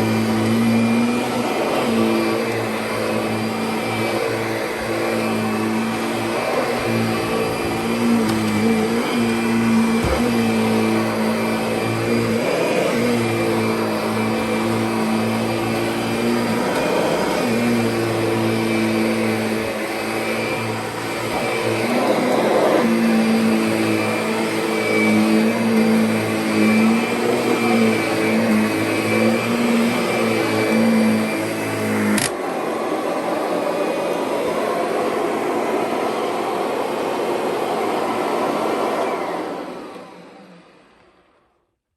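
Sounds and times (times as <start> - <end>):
vacuum cleaner running on carpet: 0.0 - 41.5.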